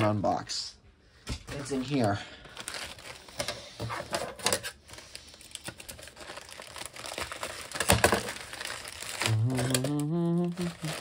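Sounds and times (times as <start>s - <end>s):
packaging rustling and crinkling: 1.5s - 11.0s.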